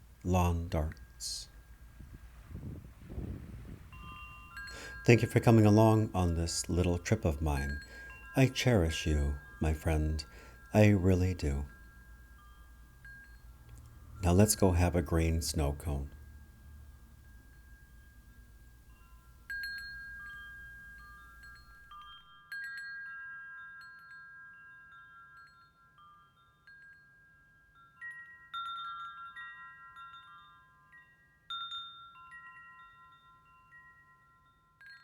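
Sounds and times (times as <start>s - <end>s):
wind chimes ringing: 0.0s - 35.0s.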